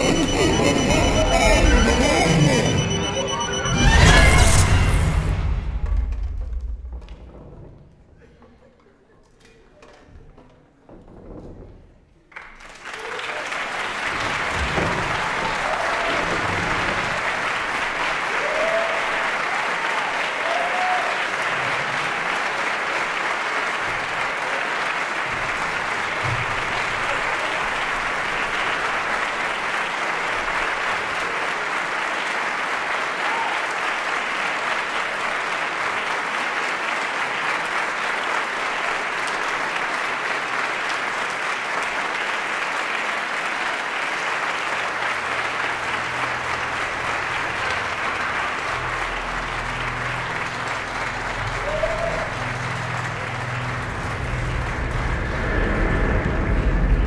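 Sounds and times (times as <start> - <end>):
audience applauding: 0.0 - 5.5, 12.2 - 57.0
people cheering: 0.0 - 5.5, 12.3 - 57.0.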